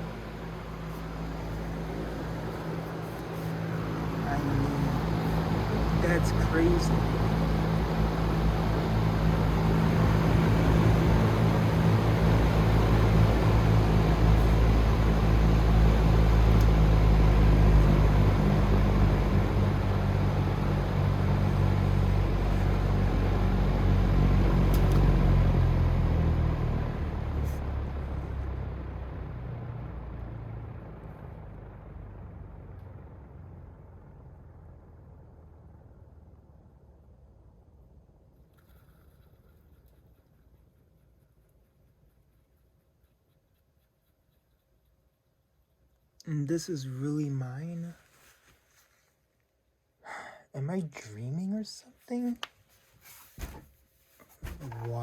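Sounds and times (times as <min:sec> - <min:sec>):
fan blades rushing air: 0:00.0 - 0:44.3, 0:52.9 - 0:55.0
low motor hum: 0:00.0 - 0:47.4.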